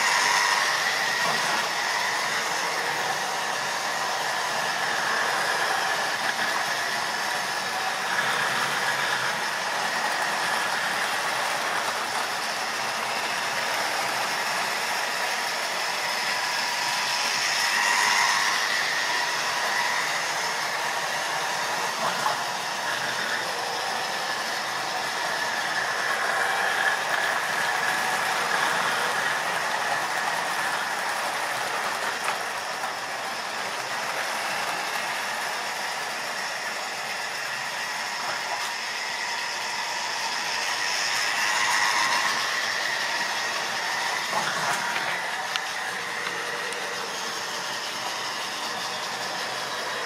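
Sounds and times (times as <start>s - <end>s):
electric motor whine: 0.0s - 50.0s.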